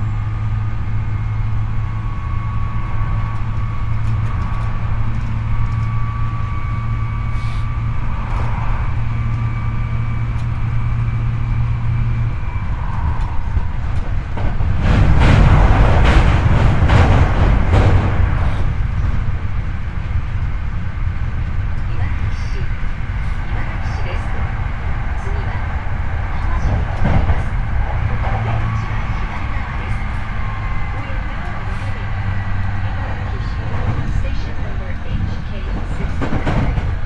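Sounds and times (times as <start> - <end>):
rough rumble with sharp clacks: 0.0 - 37.0
train motor hum and whine: 0.0 - 37.0.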